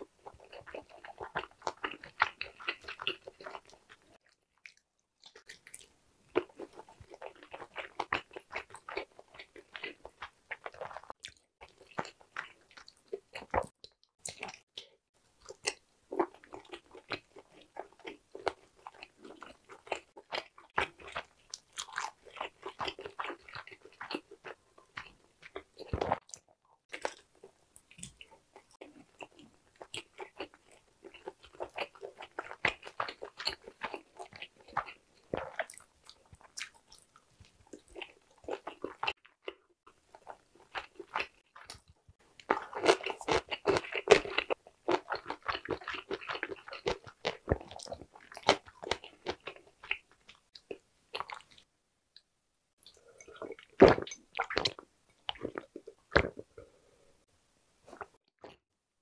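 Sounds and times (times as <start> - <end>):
person chewing wet mouth sounds: 0.0 - 51.6, 52.8 - 56.8.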